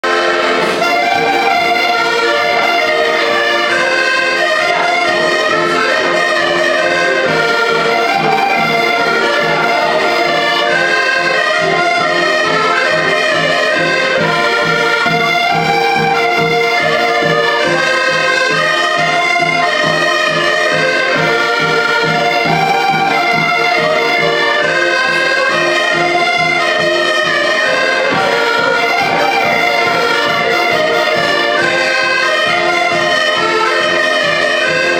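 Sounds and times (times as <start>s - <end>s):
band playing a melody: 0.0s - 34.9s
steady repeating beat: 0.0s - 34.9s.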